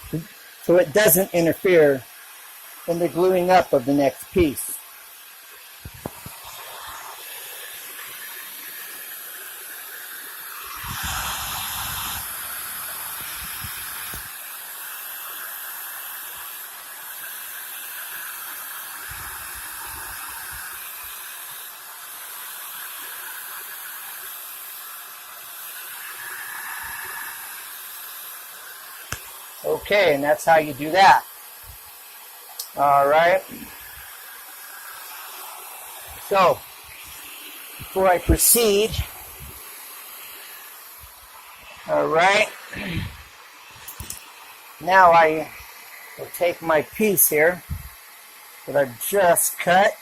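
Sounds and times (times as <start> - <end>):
hose siphoning hiss: 0.0 - 50.0.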